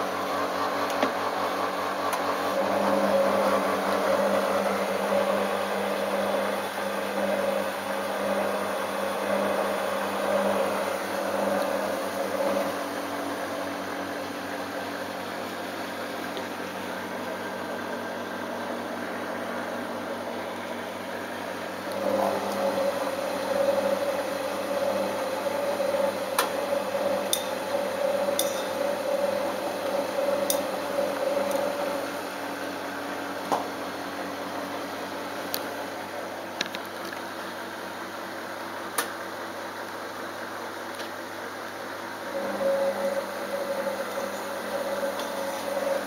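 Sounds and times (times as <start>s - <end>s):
washing machine motor hum: 0.0s - 46.0s.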